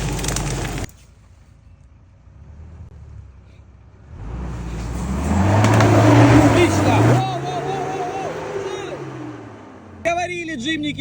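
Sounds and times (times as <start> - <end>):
off-road vehicle engine: 0.0 - 11.0.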